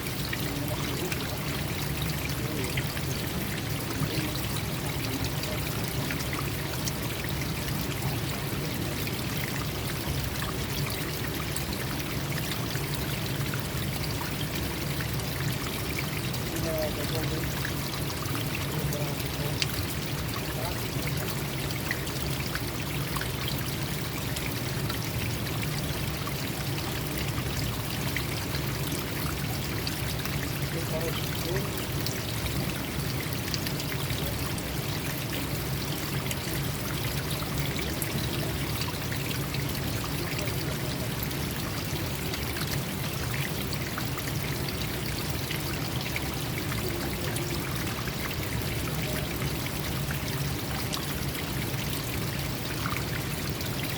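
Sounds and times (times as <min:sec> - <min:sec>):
stream water gurgling: 0:00.0 - 0:53.9.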